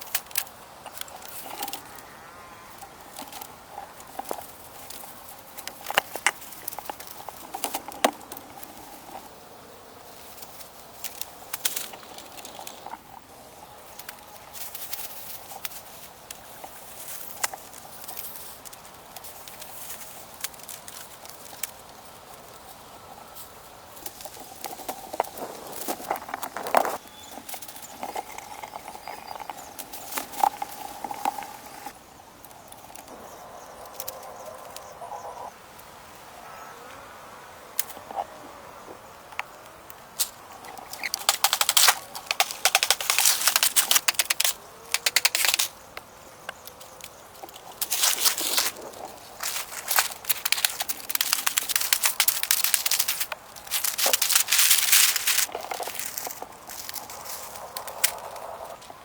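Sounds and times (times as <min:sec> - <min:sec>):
dry crackling and crunching: 0:00.0 - 0:59.0.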